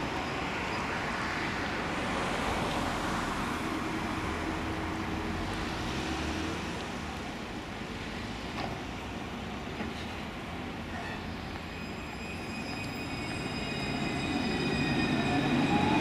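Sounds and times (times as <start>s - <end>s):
tram running quietly: 0.0s - 16.0s
urban traffic noise: 0.0s - 16.0s.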